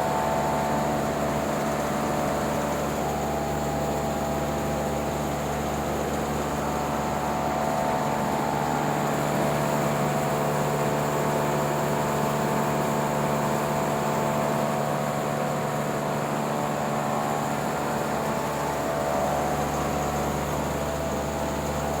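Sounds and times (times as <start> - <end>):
industrial fan running: 0.0 - 22.0.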